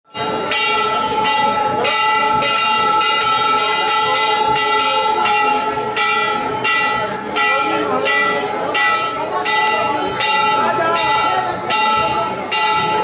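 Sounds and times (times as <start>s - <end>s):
temple bells ringing: 0.1s - 13.0s.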